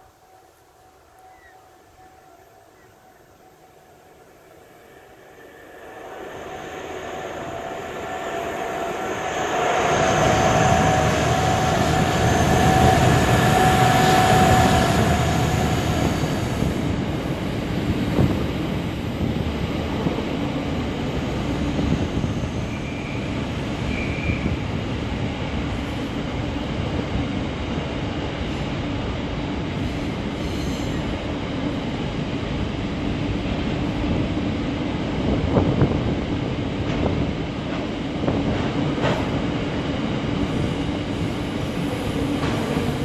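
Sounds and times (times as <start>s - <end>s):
diesel locomotive passing: 0.0s - 43.0s.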